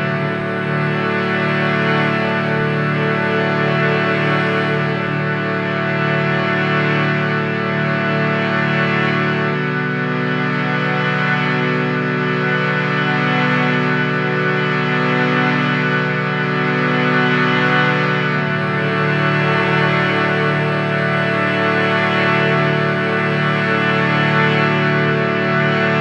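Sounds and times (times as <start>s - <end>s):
harmonium sustained chords: 0.0s - 26.0s.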